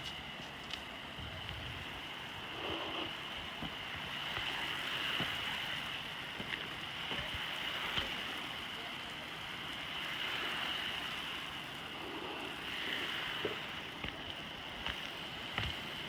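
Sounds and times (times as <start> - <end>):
spray hissing on a roof: 0.0 - 16.0.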